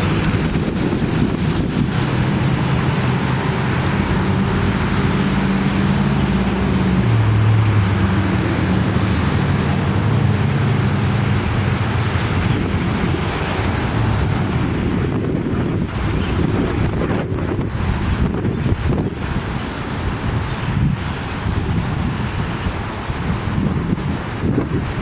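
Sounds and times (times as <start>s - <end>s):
storm wind gusting on microphone: 0.0s - 25.0s.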